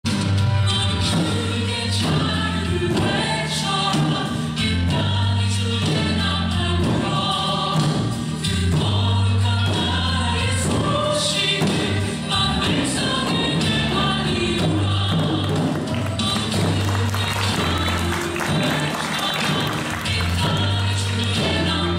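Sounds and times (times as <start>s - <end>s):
choir-like singing: 0.7s - 21.9s.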